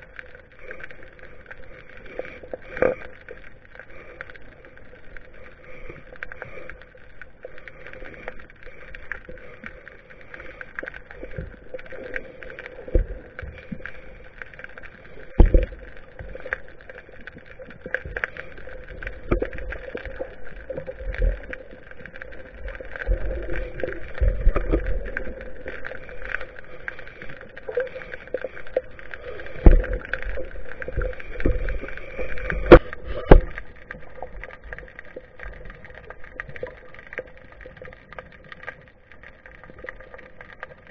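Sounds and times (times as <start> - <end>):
underwater hum: 0.0 - 40.9
water rushing: 0.0 - 40.9.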